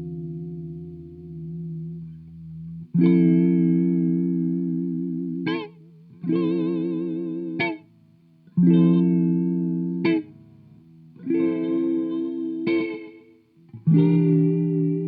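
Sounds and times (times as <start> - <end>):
electric guitar chords with delay: 0.0 - 15.0.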